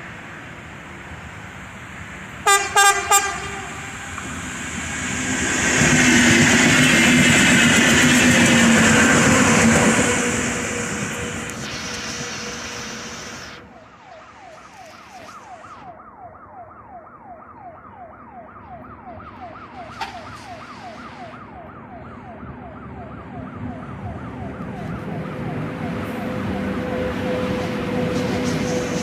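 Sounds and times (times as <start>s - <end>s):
train passing: 0.0s - 16.0s, 19.4s - 29.0s.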